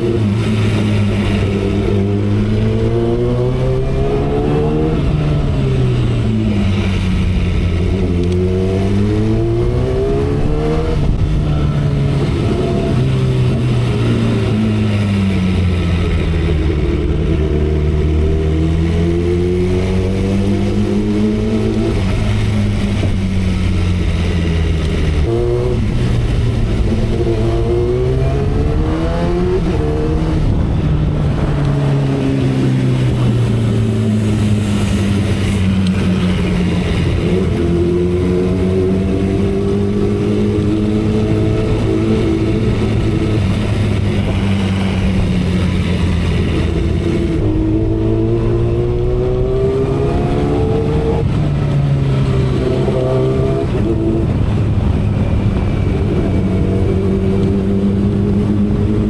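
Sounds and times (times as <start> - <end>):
motorcycle engine cruising: 0.0 - 59.0
wind noise: 0.0 - 59.0.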